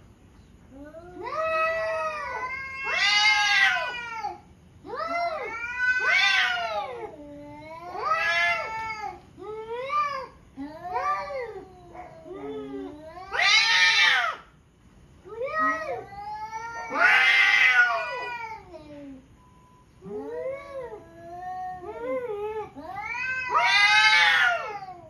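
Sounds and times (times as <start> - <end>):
cats yowling: 0.8 - 14.5, 15.3 - 19.3, 20.0 - 25.0.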